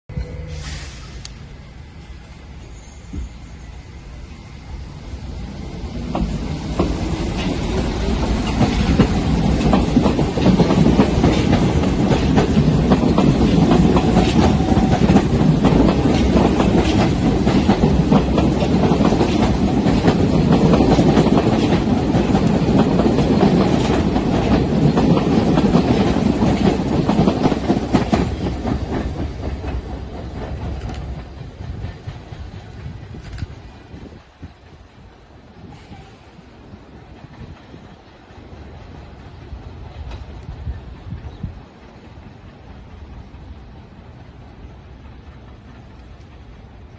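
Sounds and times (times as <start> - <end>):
subway train wheels clacking: 0.1 - 46.9.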